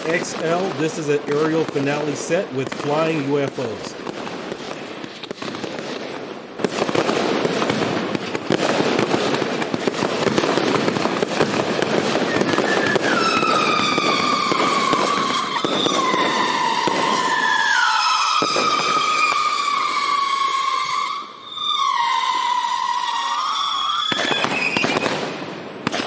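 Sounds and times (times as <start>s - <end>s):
firework crackling: 0.0s - 26.0s
descending firework whistles: 3.8s - 25.4s.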